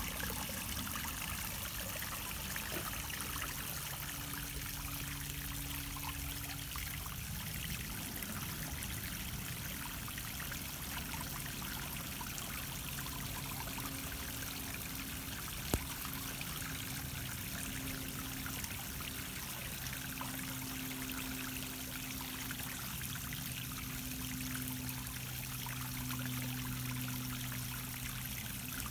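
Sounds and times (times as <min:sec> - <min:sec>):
faint low hum: 0:00.0 - 0:28.9.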